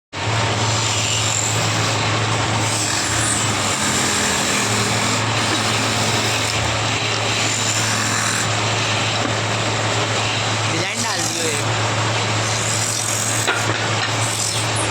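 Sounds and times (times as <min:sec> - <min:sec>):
woodworking machine motor whirring: 0:00.2 - 0:14.9.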